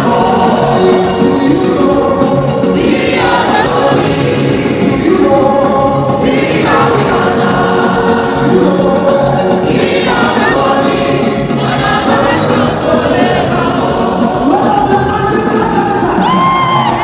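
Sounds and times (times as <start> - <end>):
choir singing gospel song: 0.0 - 17.0.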